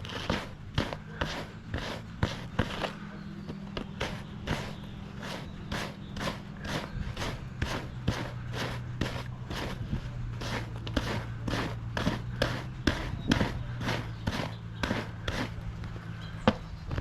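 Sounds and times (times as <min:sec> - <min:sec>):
brush scratching through feathers: 0:00.0 - 0:15.8.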